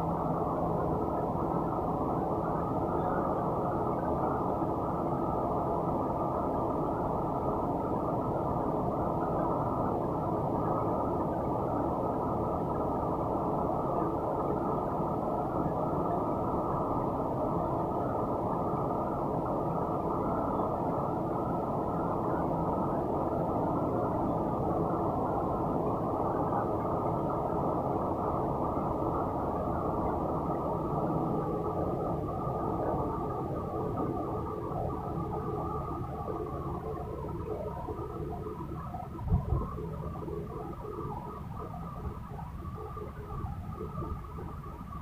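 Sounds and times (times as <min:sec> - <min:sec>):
muffled low mechanical rumble: 0:00.0 - 0:45.0.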